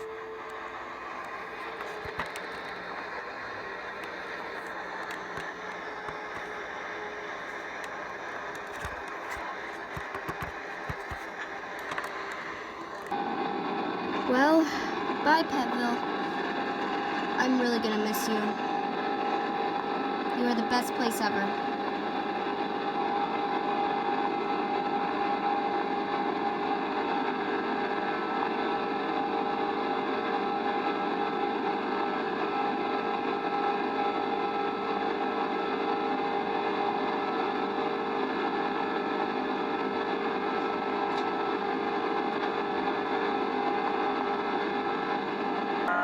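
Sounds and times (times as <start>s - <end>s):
airliner cabin drone: 0.0s - 46.0s.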